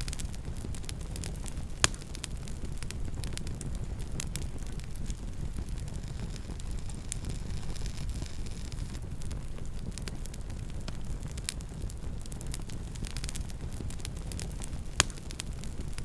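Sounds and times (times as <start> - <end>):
burning wood crackling: 0.0 - 16.0
campfire rumble: 0.0 - 16.0.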